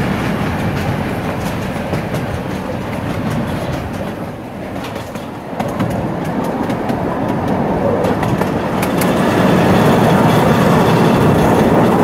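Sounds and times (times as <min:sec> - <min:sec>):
train wheels rumbling on rail: 0:00.0 - 0:12.0
clicks over rail joints: 0:00.1 - 0:12.0.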